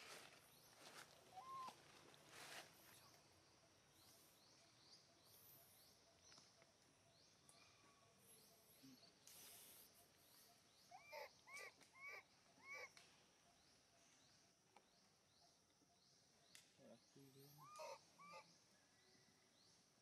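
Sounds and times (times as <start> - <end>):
faint high chirp: 0.1 - 19.5.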